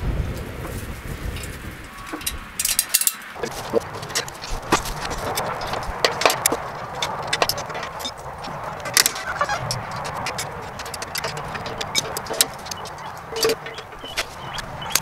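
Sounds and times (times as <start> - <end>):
metal clicks and clinks of hardware: 2.0 - 15.0.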